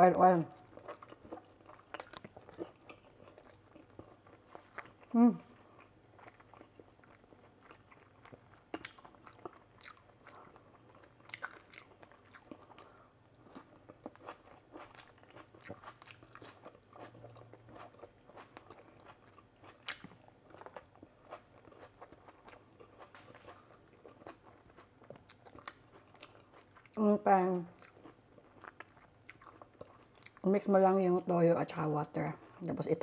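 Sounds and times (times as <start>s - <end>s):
person chewing food: 0.6s - 27.0s, 27.8s - 30.4s.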